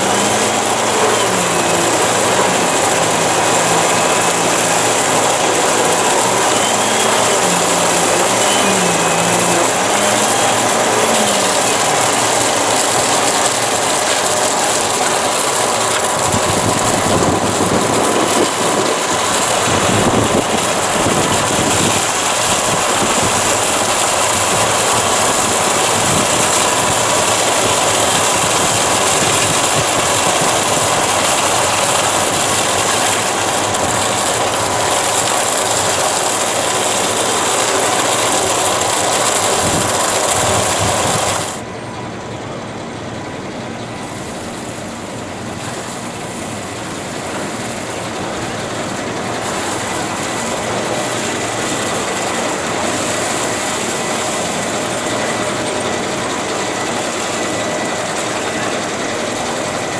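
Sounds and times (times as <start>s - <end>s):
construction machinery running: 0.0s - 59.9s.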